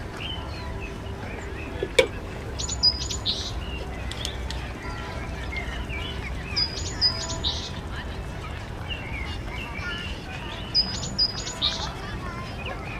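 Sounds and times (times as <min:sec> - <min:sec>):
birds chirping: 0:00.0 - 0:12.9
low outdoor rumble: 0:00.0 - 0:12.9.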